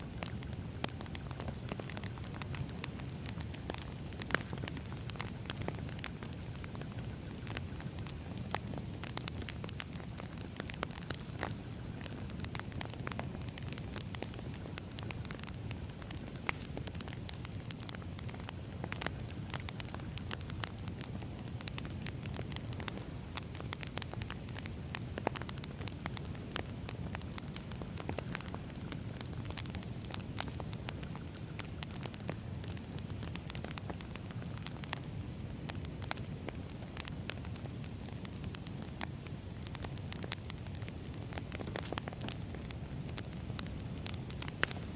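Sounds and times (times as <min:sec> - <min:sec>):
firewood crackling and popping: 0:00.0 - 0:44.9.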